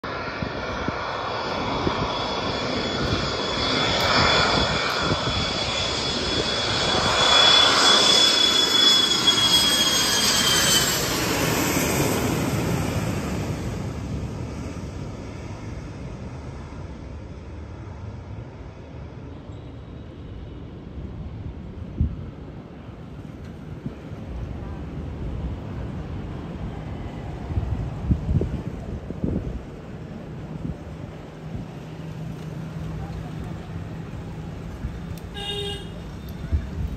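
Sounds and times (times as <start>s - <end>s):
jet airliner flying overhead: 0.0s - 36.9s.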